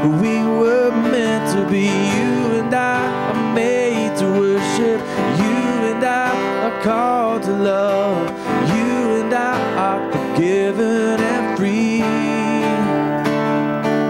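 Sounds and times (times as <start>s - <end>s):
sliding melody line: 0.0s - 14.0s
strummed acoustic guitar: 0.0s - 14.0s
worship band playing: 0.0s - 14.0s.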